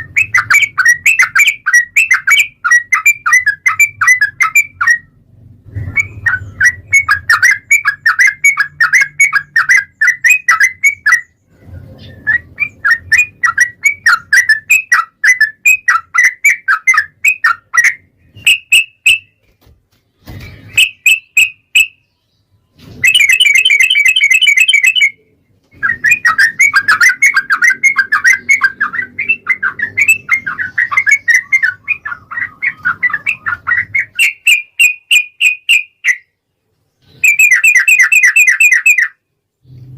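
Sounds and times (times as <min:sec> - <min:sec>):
bird chattering song: 0:00.0 - 0:19.5, 0:20.2 - 0:39.9
buzzy bird trill: 0:00.0 - 0:19.5, 0:20.2 - 0:36.4, 0:37.0 - 0:39.9.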